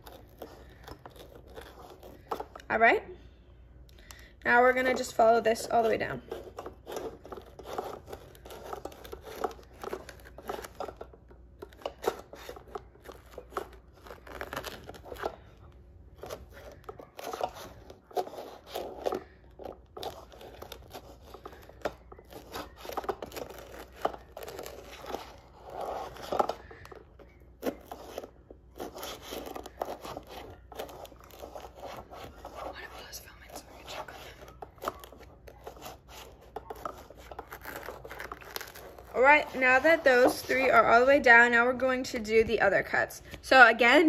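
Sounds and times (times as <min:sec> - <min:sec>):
crust crackling: 0:05.8 - 0:41.4.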